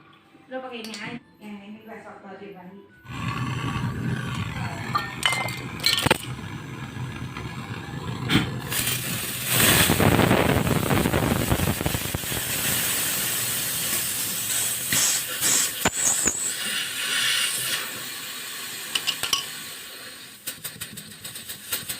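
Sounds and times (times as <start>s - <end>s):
gas hissing from tubing: 3.1s - 21.9s.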